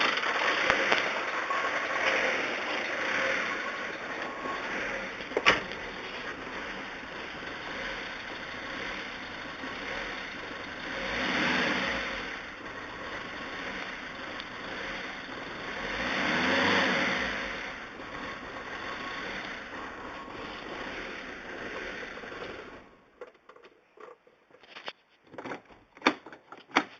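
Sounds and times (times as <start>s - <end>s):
diesel engine idling and revving: 0.0s - 23.2s.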